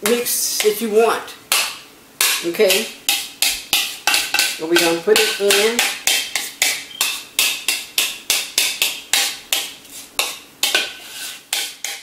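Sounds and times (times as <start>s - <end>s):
utensil scraping a mixing bowl: 2.2s - 12.0s.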